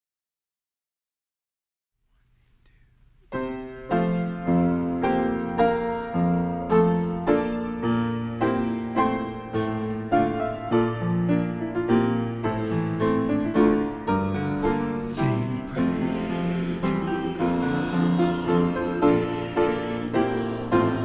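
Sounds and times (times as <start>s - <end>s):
grand piano chords: 3.3s - 21.0s.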